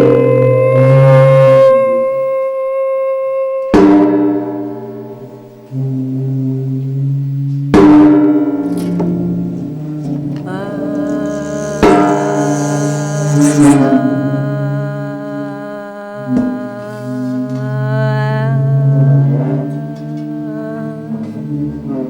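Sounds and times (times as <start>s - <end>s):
low drone shifting in pitch: 0.0s - 22.0s
slow ambient music: 0.0s - 22.0s.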